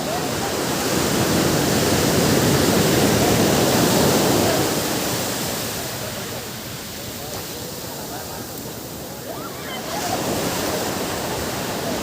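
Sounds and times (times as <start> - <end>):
ocean wave breaking: 0.0 - 12.0.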